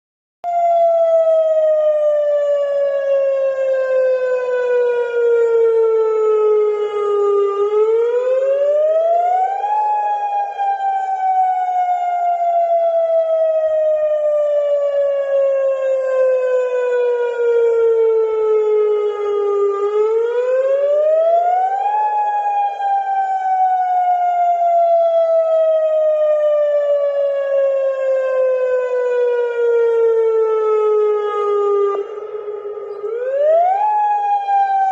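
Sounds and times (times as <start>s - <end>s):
warning siren wailing: 0.4s - 34.9s.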